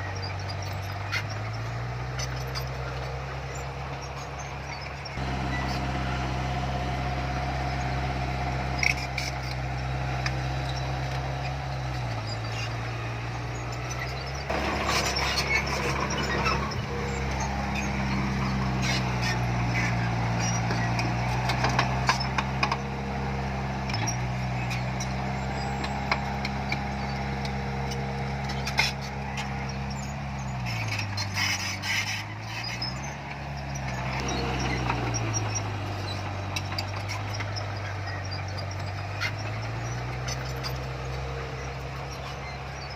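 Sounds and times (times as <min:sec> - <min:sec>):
diesel engine of heavy machinery: 0:00.0 - 0:42.9.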